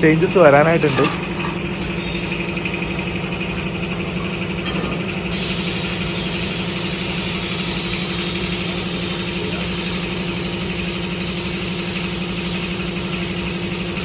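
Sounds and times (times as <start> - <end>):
motor hum: 0.0 - 14.0
spray gun hissing: 0.4 - 4.1, 5.3 - 14.0.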